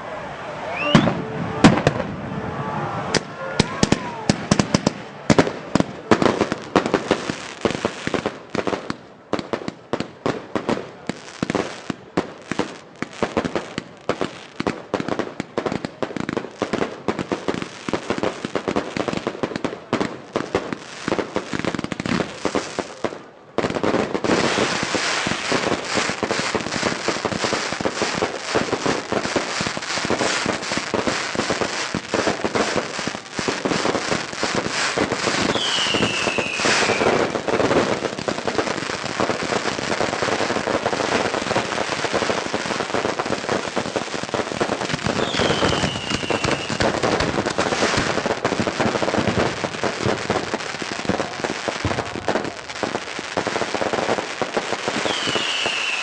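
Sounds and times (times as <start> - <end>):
fireworks bangs and pops: 0.8 - 2.3, 3.1 - 56.0.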